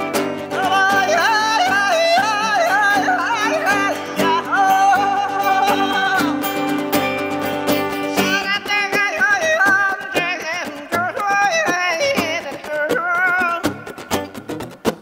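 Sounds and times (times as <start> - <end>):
acoustic guitars strummed and picked: 0.0 - 15.0
woman singing wordlessly: 0.4 - 6.8, 8.0 - 13.9.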